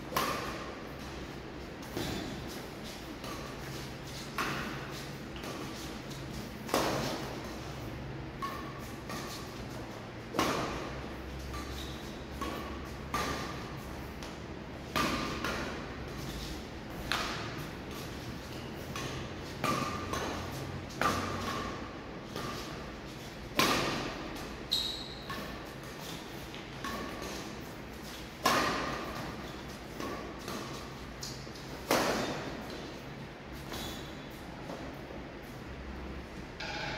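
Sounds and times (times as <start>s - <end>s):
racket hitting shuttlecock: 0.1s - 33.0s, 36.6s - 36.9s.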